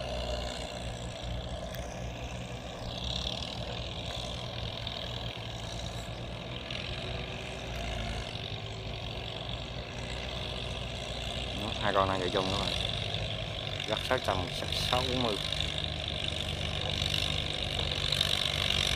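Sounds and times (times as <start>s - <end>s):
tractor diesel engines running: 0.0s - 18.9s.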